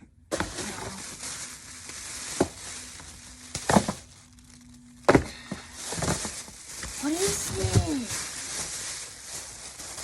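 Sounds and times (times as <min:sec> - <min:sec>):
packaging crinkling: 0:00.5 - 0:10.0.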